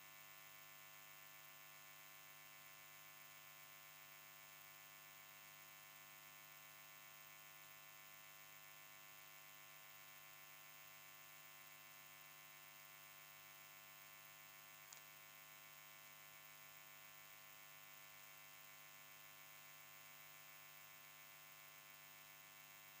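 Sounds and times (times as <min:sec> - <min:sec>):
faint electrical hum and hiss: 0:00.0 - 0:23.0.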